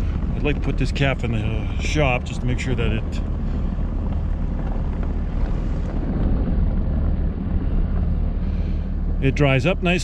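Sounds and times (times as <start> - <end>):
pickup truck engine rumble: 0.0 - 10.0.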